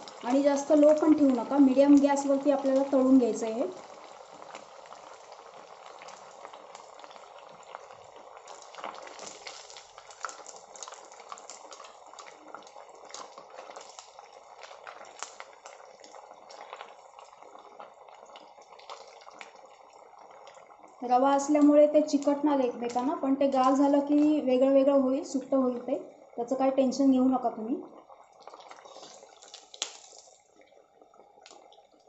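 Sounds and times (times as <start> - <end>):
food deep-frying in oil: 0.0 - 32.0.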